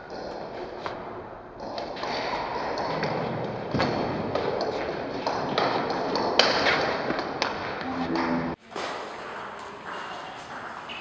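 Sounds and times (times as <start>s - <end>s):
room noise: 0.4s - 11.0s.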